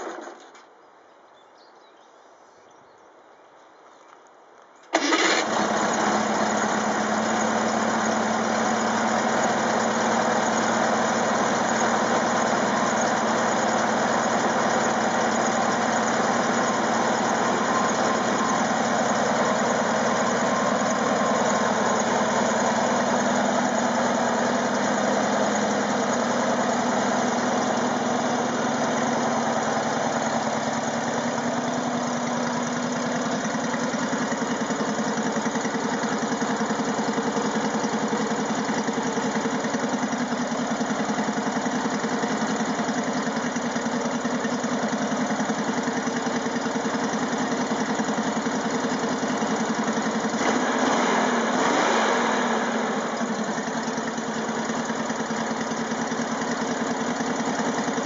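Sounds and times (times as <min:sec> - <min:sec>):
engine running near idle: 0:00.0 - 0:00.6, 0:04.9 - 0:58.0.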